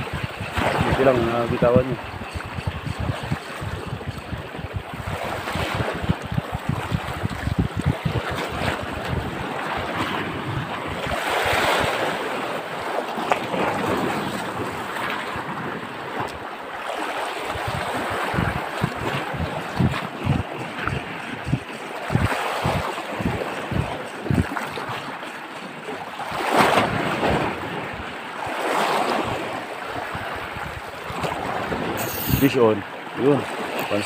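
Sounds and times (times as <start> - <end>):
wind buffeting microphone: 0.0 - 32.8
sea waves washing over reef: 0.0 - 34.0.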